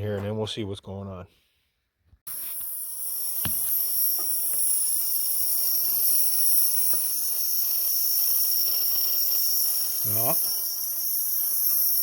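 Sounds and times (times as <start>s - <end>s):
compressed air hissing: 2.3s - 12.0s.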